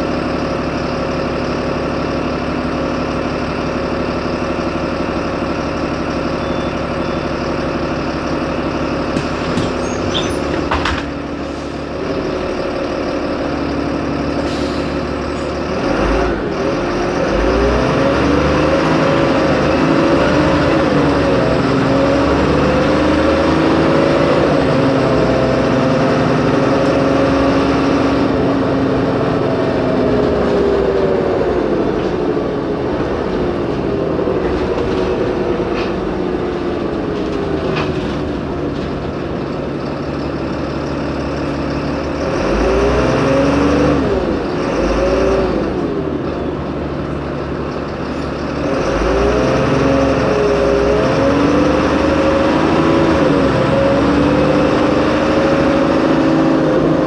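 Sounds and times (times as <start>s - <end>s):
bus diesel engine idling and revving: 0.0s - 57.0s.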